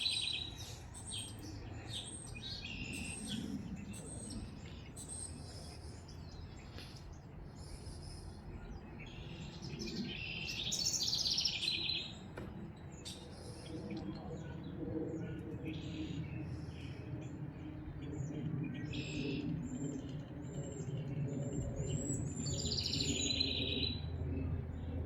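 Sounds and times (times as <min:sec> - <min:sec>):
low outdoor background hum: 0:00.0 - 0:25.0
songbirds chirping and singing: 0:00.0 - 0:25.0.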